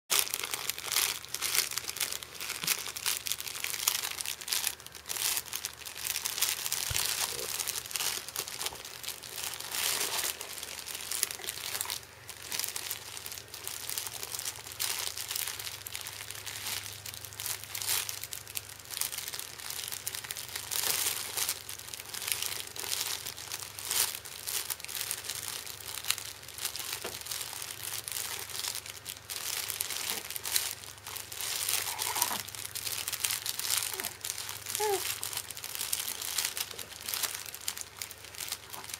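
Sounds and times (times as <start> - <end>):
cloth crinkle book crackling: 0.1 - 38.9.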